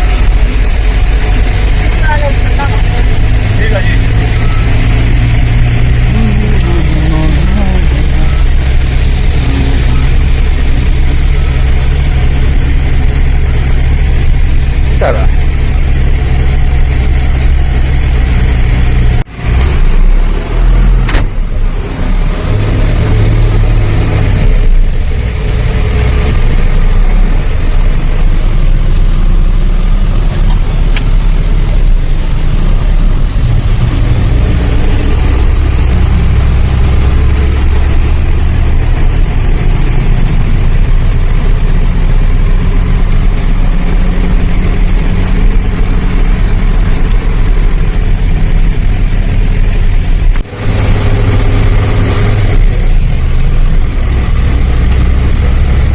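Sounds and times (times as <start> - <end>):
truck engine droning: 0.0 - 55.9.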